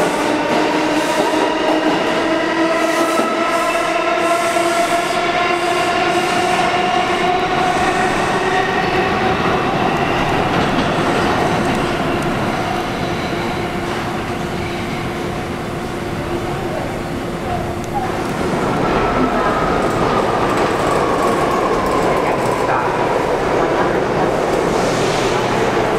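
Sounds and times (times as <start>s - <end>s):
subway train wheels rumbling: 0.0s - 25.9s.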